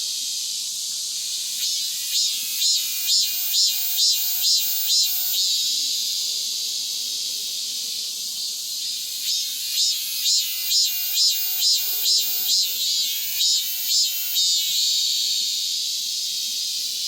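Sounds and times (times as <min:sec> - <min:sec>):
cicada singing: 0:00.0 - 0:17.0.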